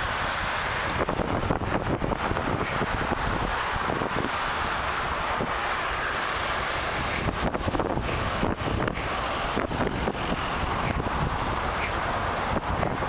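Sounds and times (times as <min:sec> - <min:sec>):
car traffic: 0:00.0 - 0:13.0
wind buffeting microphone: 0:00.0 - 0:13.0.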